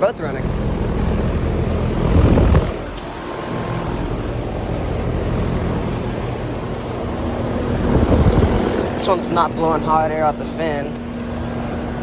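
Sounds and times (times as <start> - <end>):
air conditioner units humming: 0.0 - 12.0
loud air rush: 1.1 - 12.0.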